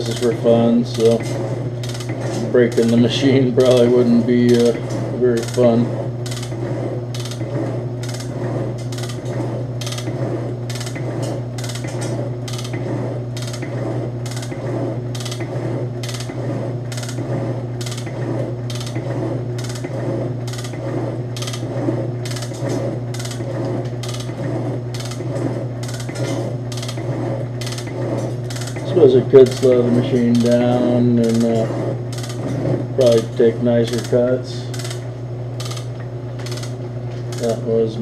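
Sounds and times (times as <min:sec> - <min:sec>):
ram stroke clack: 0:00.0 - 0:37.6
metal shaper motor hum: 0:00.0 - 0:38.0.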